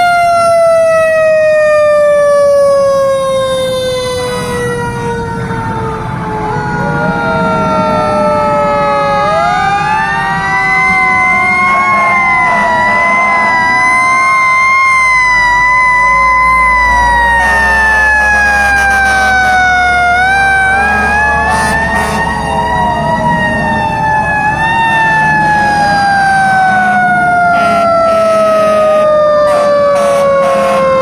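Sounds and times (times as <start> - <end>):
fire truck sirens wailing: 0.0 - 31.0.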